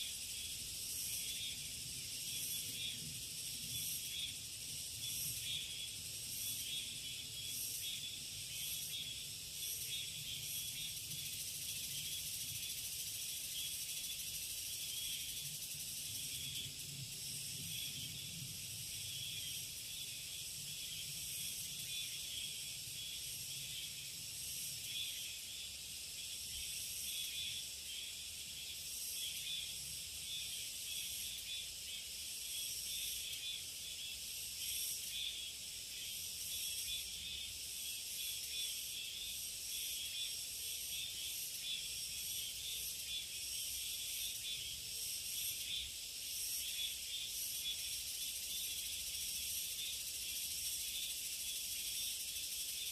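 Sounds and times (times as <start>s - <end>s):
insect chorus: 0.0s - 52.9s.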